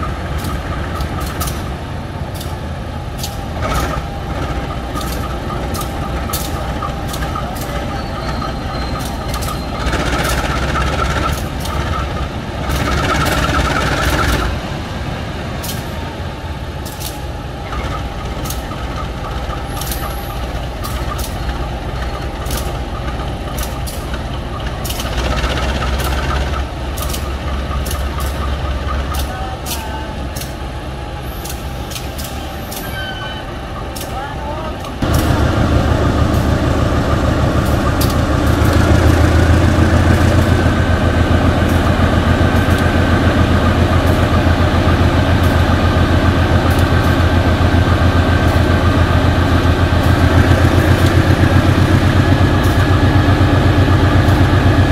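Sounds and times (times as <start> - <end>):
diesel locomotive engine idling: 0.0 - 54.9.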